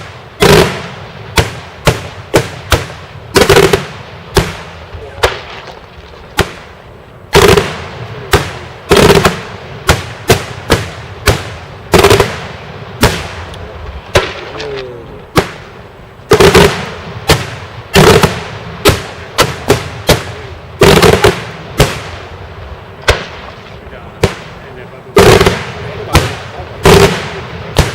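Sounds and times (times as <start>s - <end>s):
fireworks exploding with sharp bangs: 0.0s - 27.9s.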